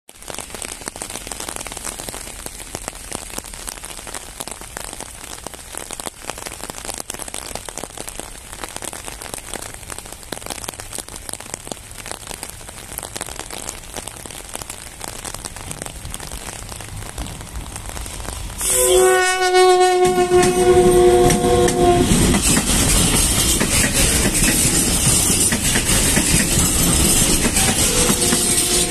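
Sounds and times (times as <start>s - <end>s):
dense crackling patter: 0.1s - 28.9s.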